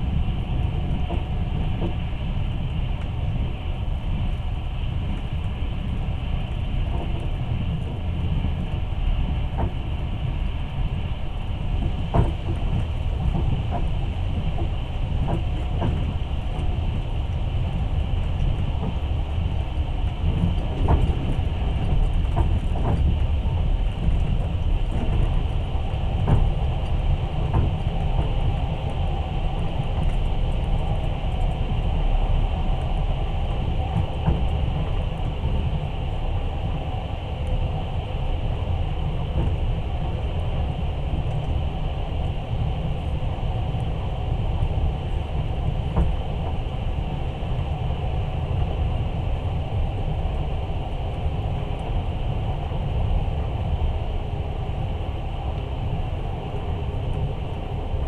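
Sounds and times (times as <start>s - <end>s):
train wheels rumbling: 0.0s - 58.0s.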